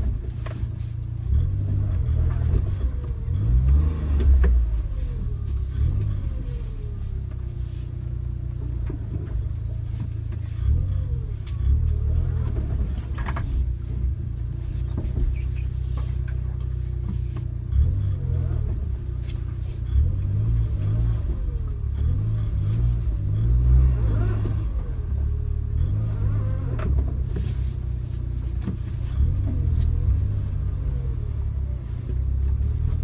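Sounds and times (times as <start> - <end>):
car engine revving while driving: 0.0 - 33.0.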